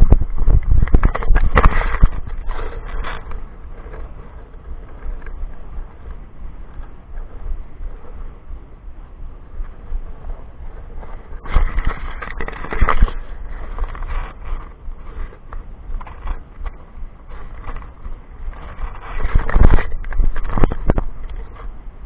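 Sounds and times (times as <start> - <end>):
scraping and rustling: 0.0 - 8.4, 9.6 - 21.8
wind rumble on microphone: 0.0 - 22.0.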